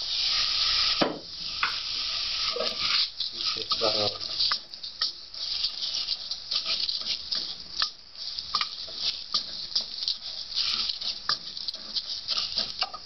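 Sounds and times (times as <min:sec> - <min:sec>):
spoon stirring rice grains: 0:01.6 - 0:13.0.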